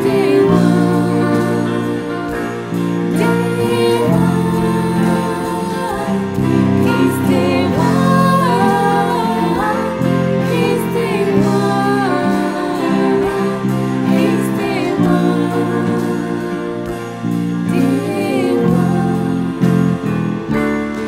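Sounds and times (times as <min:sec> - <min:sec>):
woman singing: 0:00.0 - 0:02.5, 0:03.1 - 0:17.0, 0:17.6 - 0:20.1
cello: 0:00.0 - 0:21.0
electric bass guitar: 0:00.0 - 0:21.0
piano: 0:00.0 - 0:21.0.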